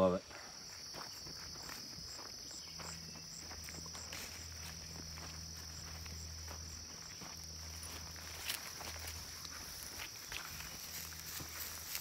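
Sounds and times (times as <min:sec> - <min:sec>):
insect chorus: 0:00.0 - 0:12.0
footsteps through tall grass: 0:00.2 - 0:12.0.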